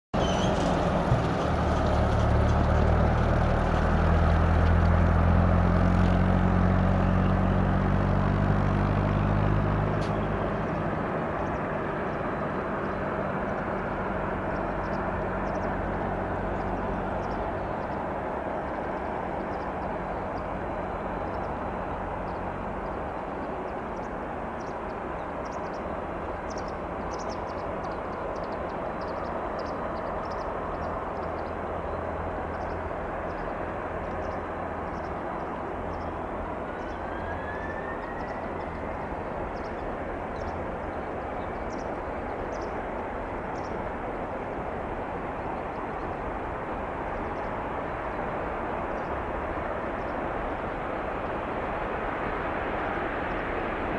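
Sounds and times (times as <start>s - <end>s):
broad rushing noise: 0.2s - 53.9s
jet engine hum: 0.2s - 53.9s.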